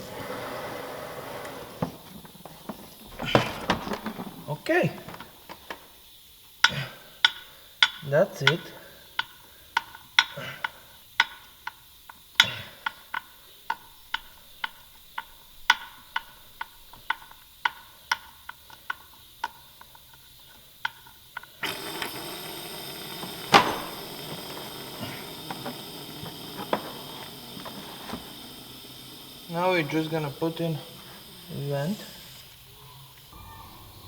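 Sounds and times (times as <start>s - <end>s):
air hissing from tyre valve: 0.0s - 34.0s
regular mechanical clicking: 2.2s - 33.4s.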